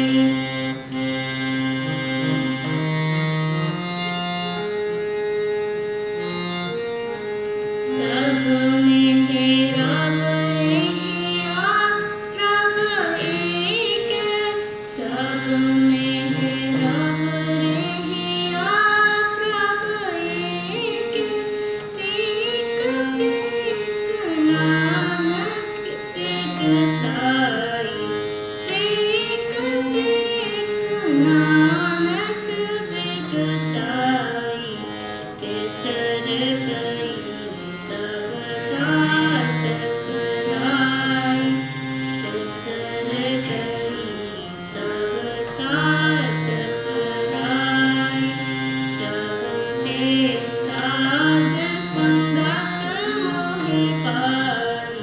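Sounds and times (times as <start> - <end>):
woman singing: 0.0 - 0.5, 7.8 - 55.0
harmonium chords: 0.0 - 55.0.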